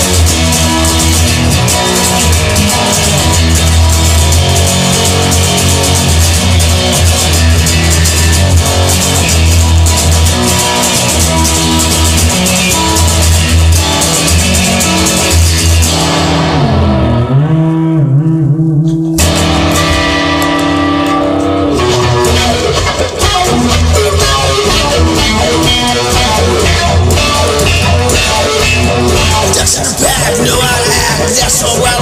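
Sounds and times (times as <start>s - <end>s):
instrumental rock music: 0.0s - 32.0s.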